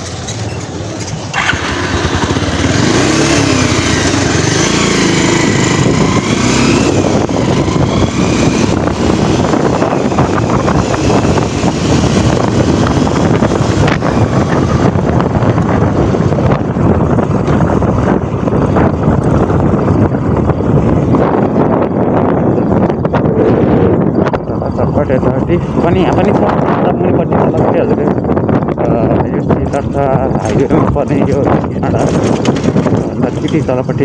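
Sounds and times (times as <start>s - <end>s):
motorcycle engine revving: 0.0s - 28.1s, 28.9s - 34.0s.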